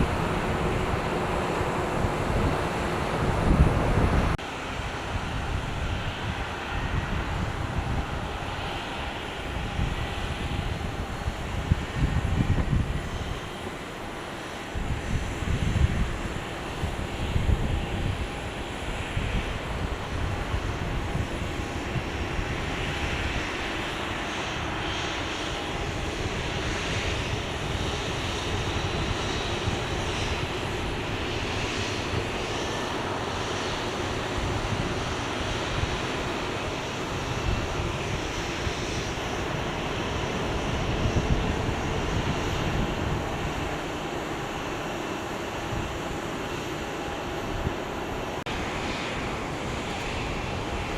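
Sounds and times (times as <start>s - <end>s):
airliner engines roaring: 0.0s - 50.9s.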